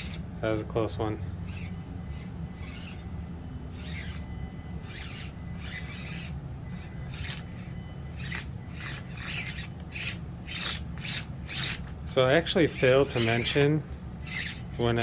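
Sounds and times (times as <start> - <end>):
small electric motor whirring: 0.0 - 15.0.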